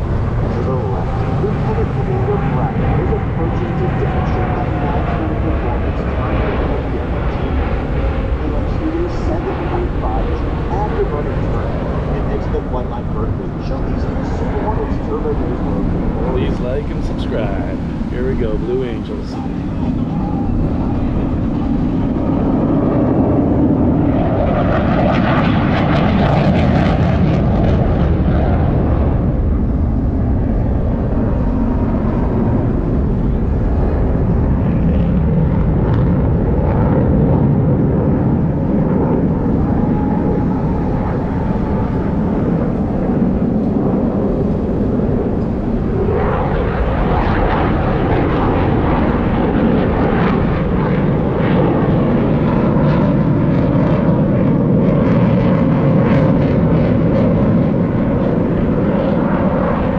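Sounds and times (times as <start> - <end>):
jets flying overhead: 0.0 - 59.9.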